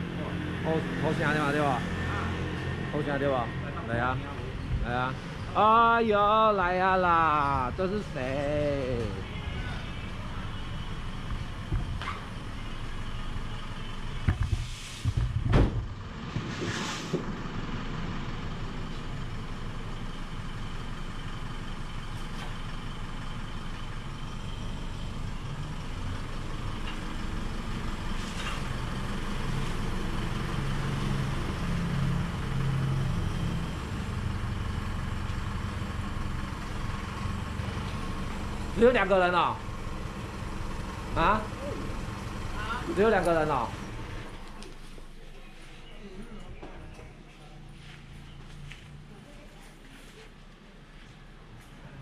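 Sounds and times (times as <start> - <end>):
truck engine rumbling: 0.0 - 49.3.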